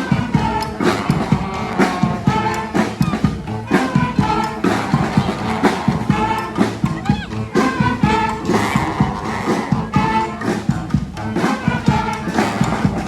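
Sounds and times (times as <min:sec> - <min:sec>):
brass band horns: 0:00.0 - 0:13.0
steady drum beat: 0:00.0 - 0:13.0.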